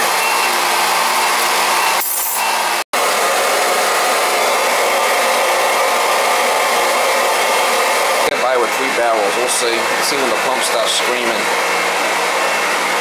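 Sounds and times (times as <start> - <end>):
electric pump running: 0.0 - 13.0.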